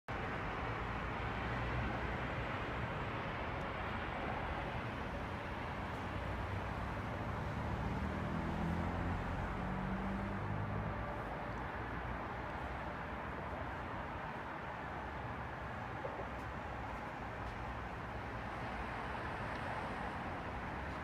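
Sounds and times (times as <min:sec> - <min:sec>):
road traffic noise: 0:00.1 - 0:21.0
vehicle engine hum: 0:00.2 - 0:21.0.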